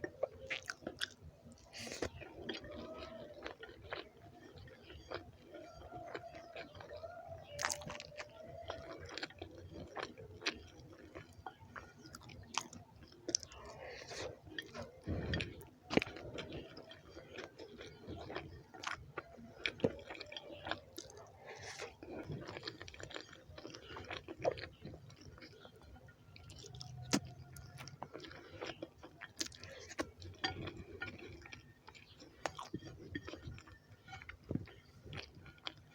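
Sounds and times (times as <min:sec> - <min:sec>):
chewing with wet mouth smacks: 0:00.0 - 0:35.9.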